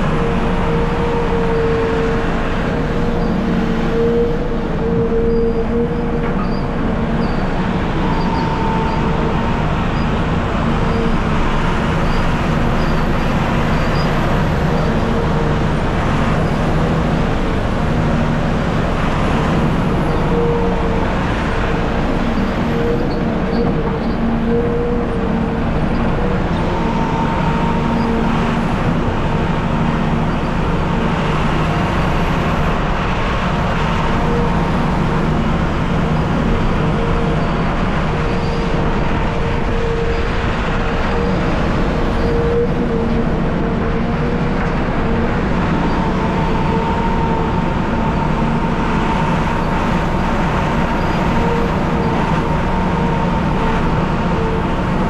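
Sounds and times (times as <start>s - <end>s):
constant whine: 0.0s - 55.0s
diesel truck engine running: 0.0s - 55.0s.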